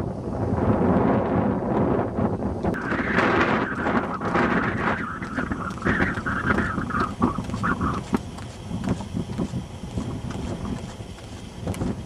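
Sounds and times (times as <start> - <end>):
gusty wind on microphone: 0.0 - 12.0.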